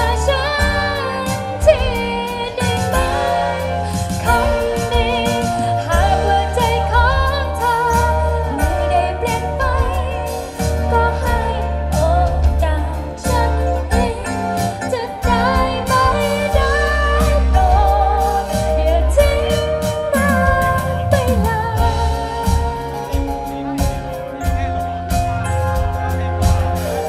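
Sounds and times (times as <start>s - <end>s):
person singing: 0.0s - 25.2s
live band playing: 0.0s - 27.0s.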